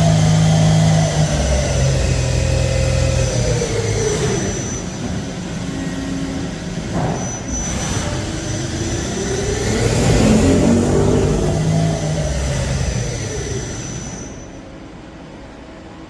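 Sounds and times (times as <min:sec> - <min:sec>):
lathe spindle whine: 0:00.0 - 0:14.7
thin steady high whine: 0:00.0 - 0:15.6.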